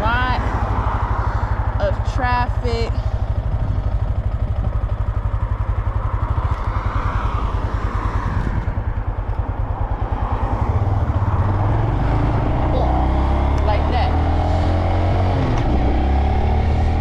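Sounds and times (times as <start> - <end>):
motorcycle engine idling: 0.0 - 16.5.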